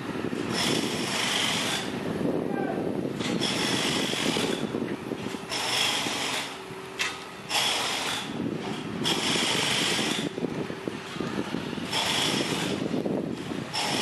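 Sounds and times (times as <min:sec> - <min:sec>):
locomotive rumbling on rails: 0:00.0 - 0:14.0.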